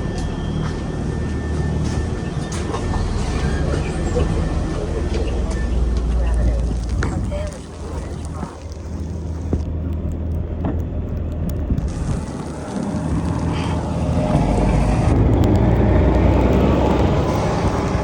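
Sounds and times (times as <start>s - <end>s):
bus diesel engine: 0.0s - 18.0s.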